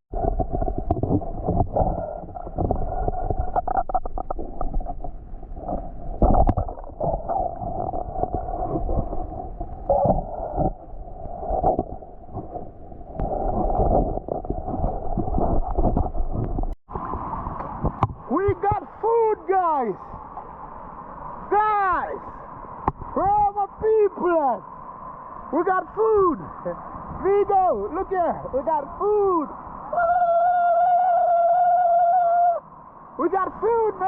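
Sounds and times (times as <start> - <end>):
underwater gurgling and sloshing: 0.1 - 19.2, 19.8 - 21.5, 22.2 - 34.0.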